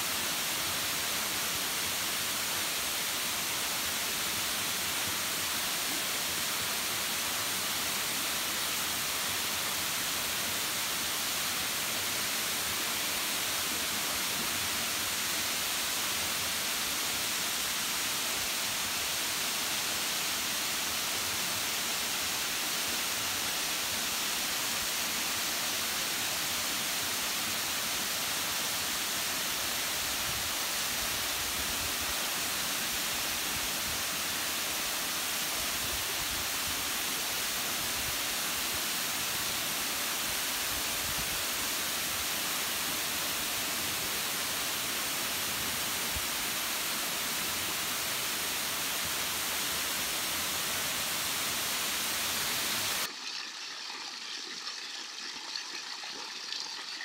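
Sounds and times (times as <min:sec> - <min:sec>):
small stream: 0:00.0 - 0:57.0.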